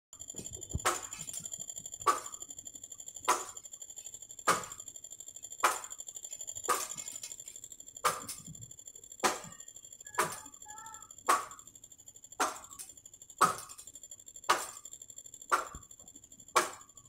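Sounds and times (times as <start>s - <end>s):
steady high buzzing: 0.1s - 17.0s.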